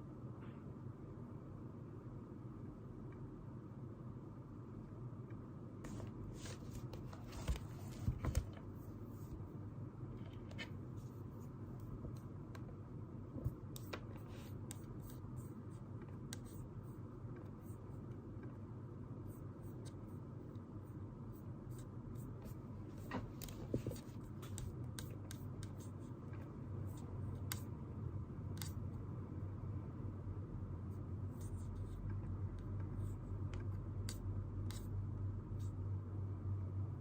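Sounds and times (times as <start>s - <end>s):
low room hum: 0.0s - 37.0s.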